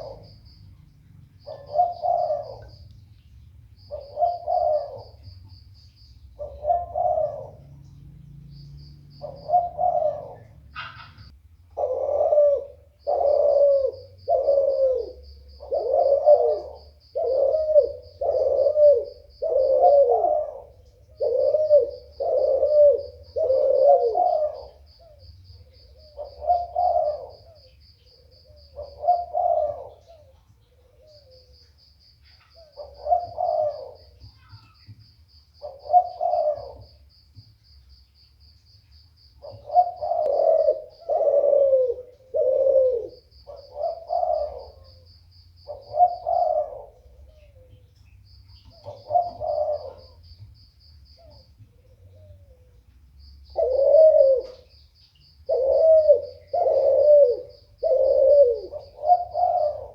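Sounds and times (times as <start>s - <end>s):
dove cooing: 0.0s - 37.5s, 39.3s - 59.9s.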